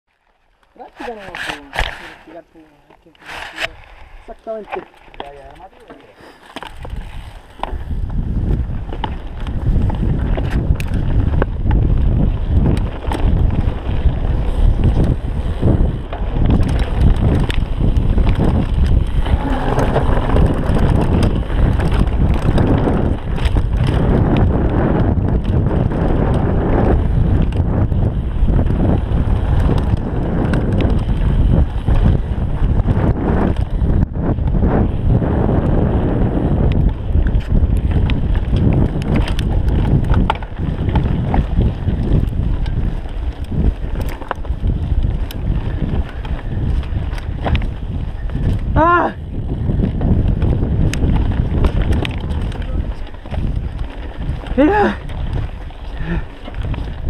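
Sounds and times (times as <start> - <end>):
wind buffeting the microphone: 0.8 - 57.0
bike rattling and knocking: 3.4 - 57.0.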